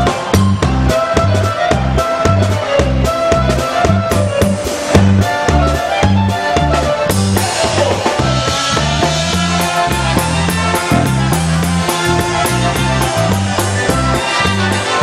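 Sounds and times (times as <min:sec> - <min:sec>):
bass line: 0:00.0 - 0:15.0
concertina playing tune: 0:00.0 - 0:15.0
drums: 0:00.0 - 0:15.0.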